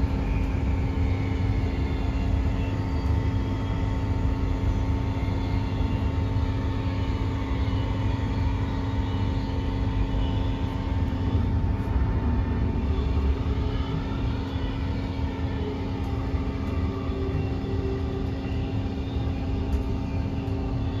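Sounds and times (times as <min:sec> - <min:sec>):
electric drive hum: 0:00.0 - 0:21.0.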